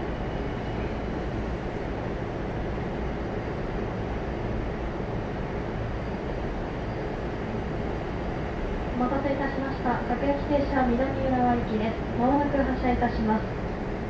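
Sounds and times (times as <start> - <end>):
train car hum and rumble: 0.0 - 14.0.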